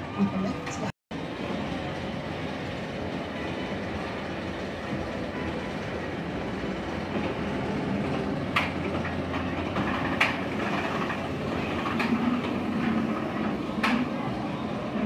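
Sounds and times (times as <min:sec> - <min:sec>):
roller coaster mechanical rumble: 0:00.0 - 0:15.0.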